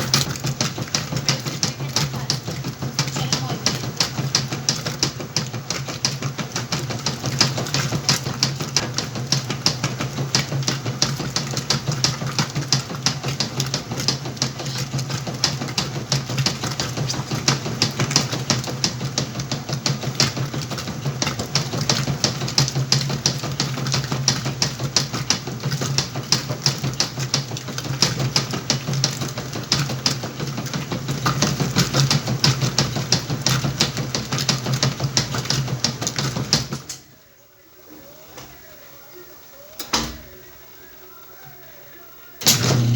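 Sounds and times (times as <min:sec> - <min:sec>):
washing machine running: 0:00.0 - 0:42.9.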